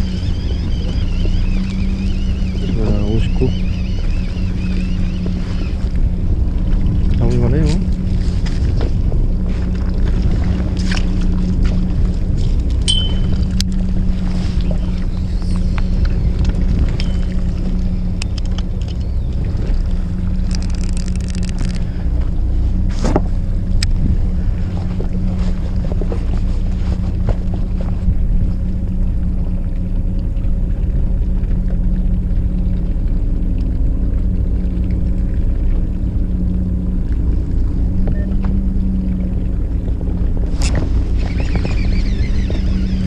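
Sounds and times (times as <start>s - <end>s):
boat engine humming: 0.0s - 43.0s
wind on microphone: 0.0s - 43.0s.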